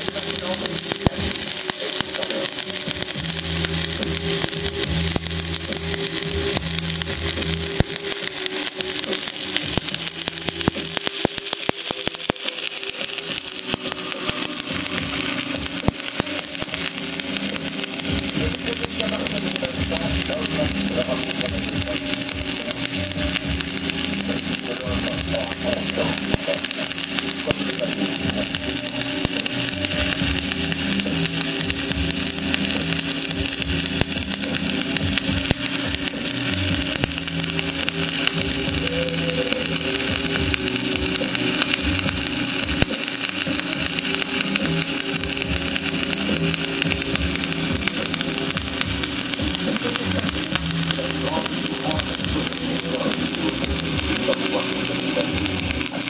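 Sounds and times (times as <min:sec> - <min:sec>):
machine hum: 0:00.0 - 0:56.0
welding arc crackling: 0:00.0 - 0:56.0.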